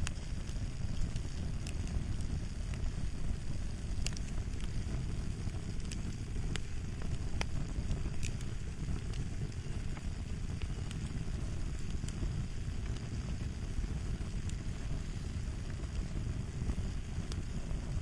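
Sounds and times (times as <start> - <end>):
fire crackling: 0.0 - 18.0
flames popping and snapping: 0.0 - 18.0.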